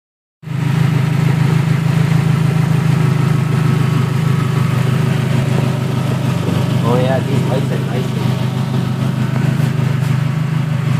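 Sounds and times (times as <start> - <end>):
car engine idling: 0.4 - 10.9.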